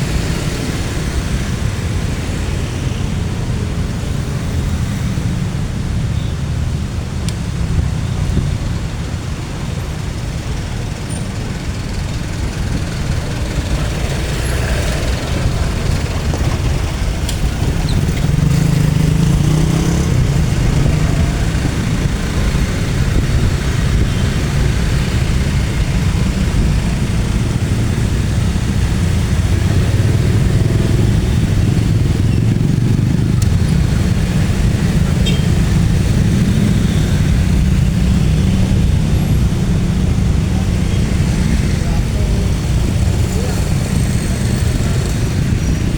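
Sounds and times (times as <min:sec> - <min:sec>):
train rumbling past: 0:07.8 - 0:45.9.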